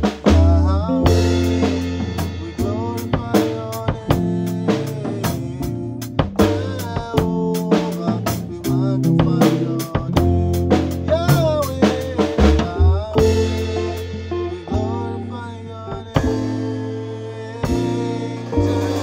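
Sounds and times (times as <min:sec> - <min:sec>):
bass: 0:00.0 - 0:19.0
drum kit groove: 0:00.0 - 0:19.0
keyboard chords: 0:00.0 - 0:19.0
man singing: 0:00.0 - 0:19.0.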